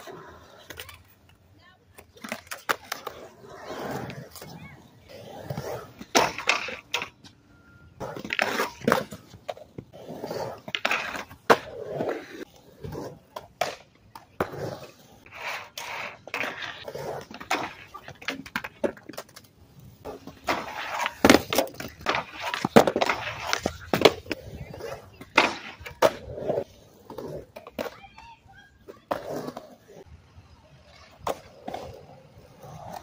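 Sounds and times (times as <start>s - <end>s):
skateboard clacking on ground: 0.0s - 33.0s
skateboard wheels rolling on concrete: 0.0s - 33.0s.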